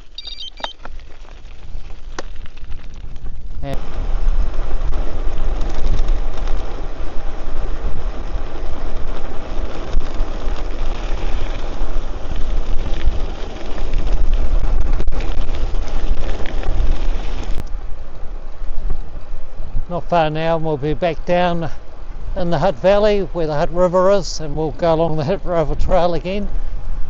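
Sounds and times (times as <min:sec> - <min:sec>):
wind buffeting microphone: 0:00.8 - 0:27.0.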